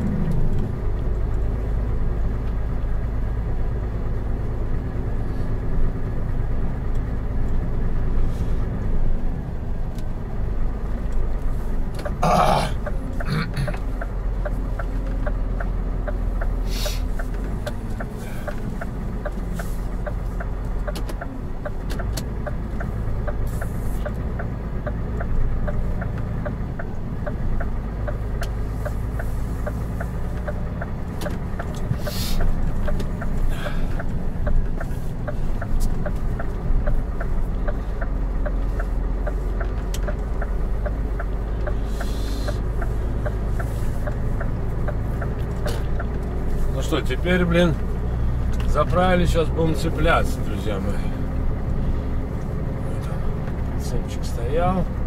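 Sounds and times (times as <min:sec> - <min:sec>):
truck engine idling: 0:00.0 - 0:55.0
light regular ticking: 0:08.6 - 0:55.0.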